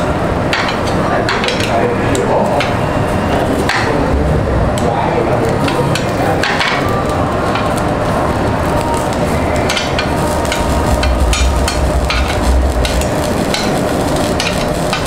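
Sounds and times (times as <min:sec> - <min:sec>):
steady grill and restaurant noise: 0:00.0 - 0:15.0.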